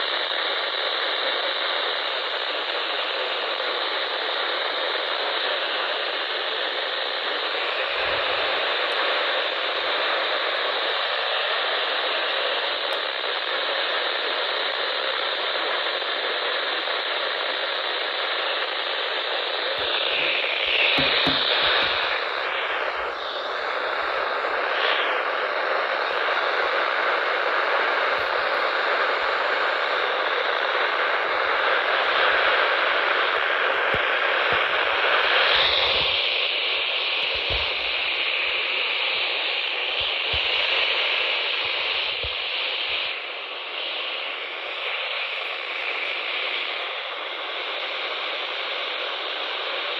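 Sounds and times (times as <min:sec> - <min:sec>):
radio static hiss: 0:00.0 - 0:49.9.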